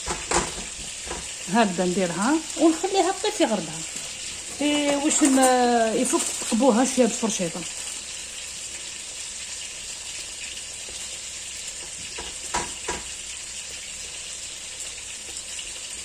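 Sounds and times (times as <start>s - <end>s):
dough sizzling on a griddle: 0.0s - 16.0s.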